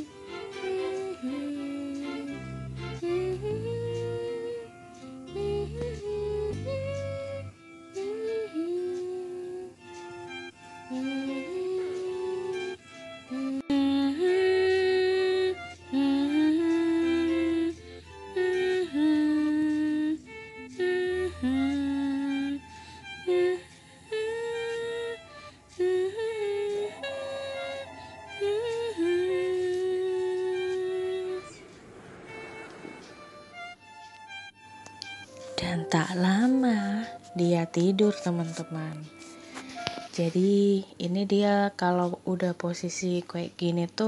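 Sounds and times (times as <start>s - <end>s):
slow lullaby melody: 0.0s - 44.0s.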